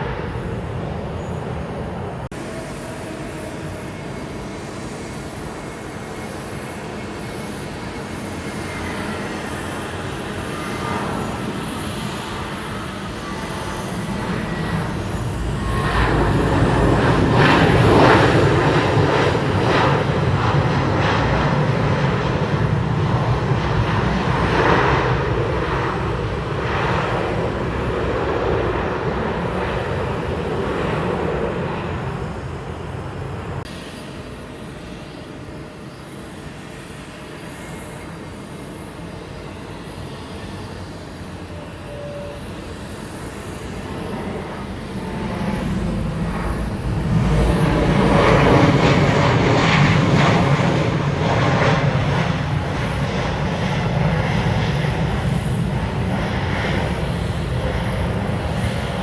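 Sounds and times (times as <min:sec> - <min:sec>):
jet passing close: 0:00.0 - 0:59.0.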